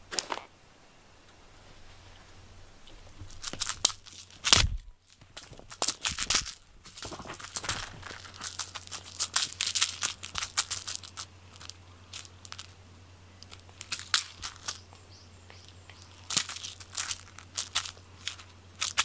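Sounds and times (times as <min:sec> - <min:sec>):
cat toy crinkling and rustling: 0:02.9 - 0:12.8, 0:13.4 - 0:19.0.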